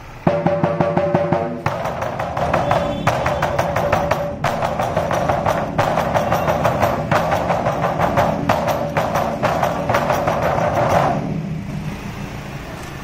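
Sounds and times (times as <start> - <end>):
barrel drums beaten fast: 0.2 - 11.6.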